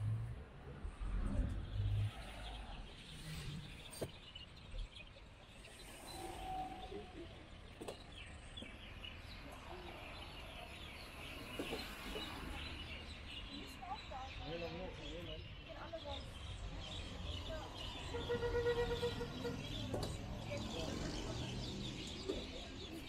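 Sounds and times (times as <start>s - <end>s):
low traffic rumble: 0.0s - 23.0s
small birds chirping: 1.7s - 23.0s.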